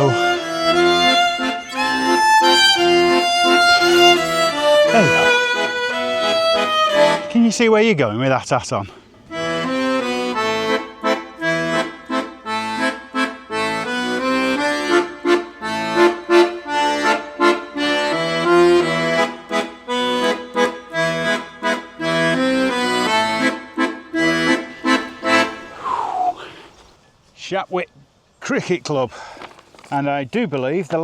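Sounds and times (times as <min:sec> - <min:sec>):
accordion tune: 0:00.0 - 0:08.2, 0:08.8 - 0:26.9.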